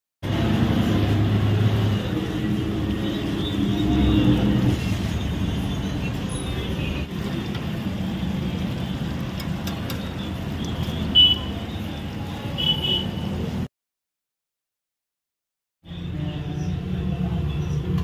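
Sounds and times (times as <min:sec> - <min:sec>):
roadside traffic noise: 0:00.2 - 0:13.7, 0:15.8 - 0:18.0.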